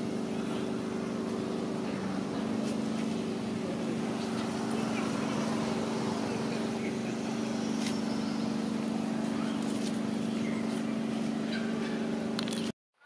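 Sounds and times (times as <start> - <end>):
steady motor drone: 0.0 - 12.7.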